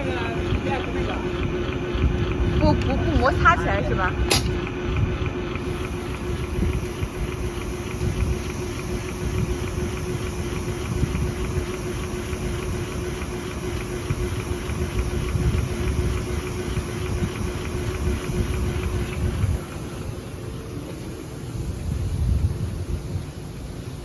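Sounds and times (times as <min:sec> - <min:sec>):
held machine tone: 0:00.0 - 0:21.4
machine humming: 0:00.0 - 0:24.0.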